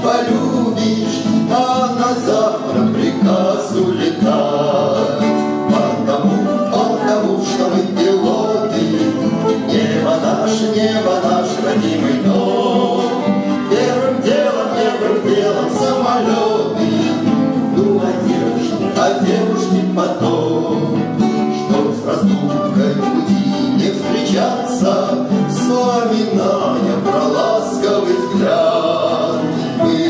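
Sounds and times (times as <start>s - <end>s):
acoustic guitars playing: 0.0s - 30.0s
men singing: 0.0s - 30.0s.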